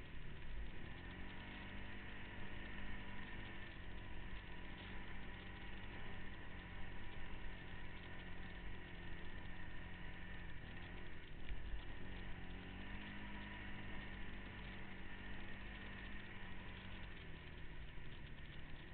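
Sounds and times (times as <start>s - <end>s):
off-road vehicle engine: 0.0s - 18.9s.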